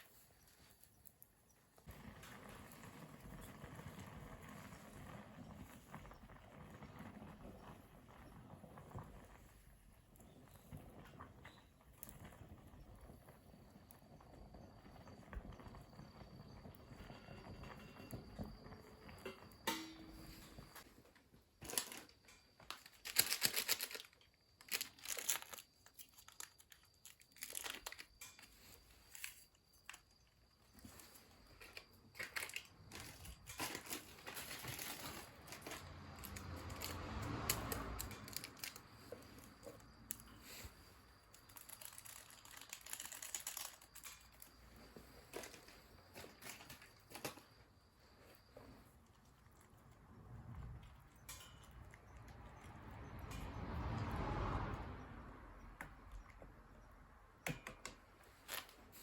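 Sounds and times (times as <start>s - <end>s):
rustling and crinkling: 0.0s - 50.1s, 58.0s - 59.0s.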